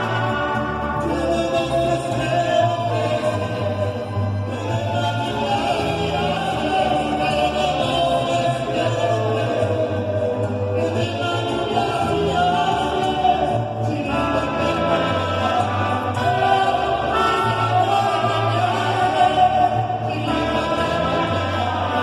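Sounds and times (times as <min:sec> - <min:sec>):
mariachi ensemble playing: 0:00.0 - 0:22.0.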